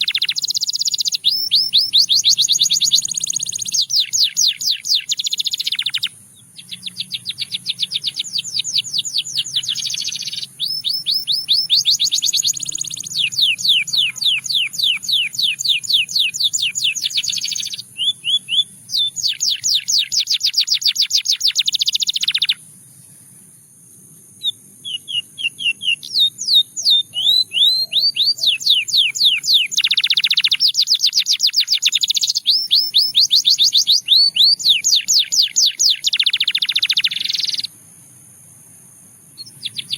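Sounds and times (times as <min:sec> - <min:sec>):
canary singing rolling trills: 0:00.0 - 0:23.5, 0:24.4 - 0:37.7, 0:39.4 - 0:39.9.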